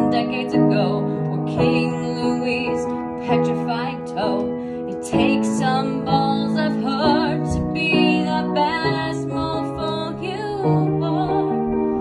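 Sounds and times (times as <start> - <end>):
upright piano chords: 0.0 - 12.0
woman singing: 0.0 - 12.0.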